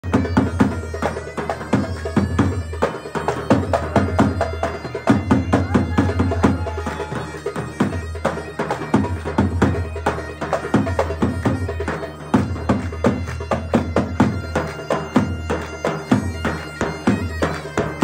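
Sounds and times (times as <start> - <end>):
sustained melody: 0.2 - 18.0.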